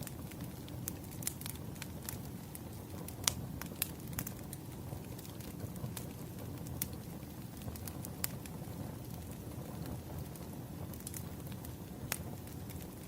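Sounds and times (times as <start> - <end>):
firewood crackling and popping: 0.0 - 13.0
wood fire rumbling: 0.0 - 13.0.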